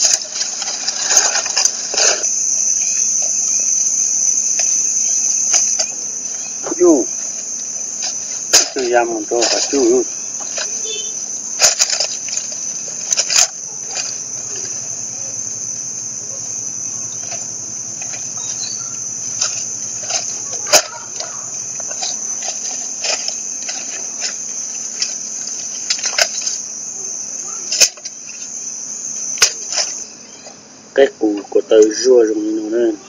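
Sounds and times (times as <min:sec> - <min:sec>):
high-pitched insect chorus: 0:00.0 - 0:33.0.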